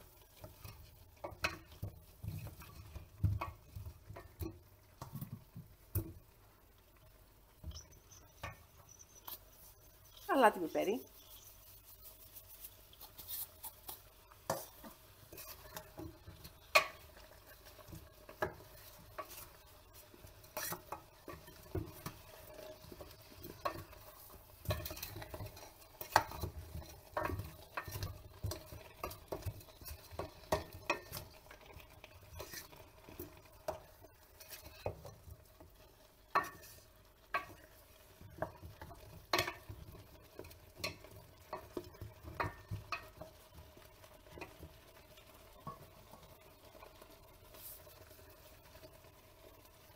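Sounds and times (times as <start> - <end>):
spoon stirring stew in a pot: 0.0 - 49.9
spoon knocking and scraping pot: 0.3 - 6.3, 7.6 - 10.3, 11.0 - 46.8.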